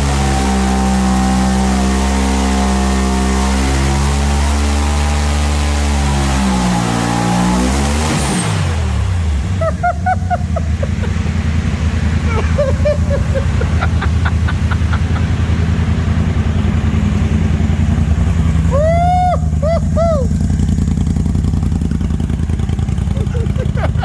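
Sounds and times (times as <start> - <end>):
engine revving: 0.0 - 24.0.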